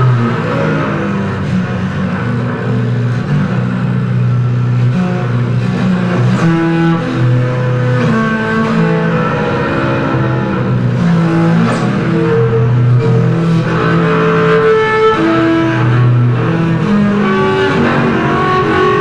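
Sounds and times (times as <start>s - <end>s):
low held bass notes: 0.0s - 19.0s.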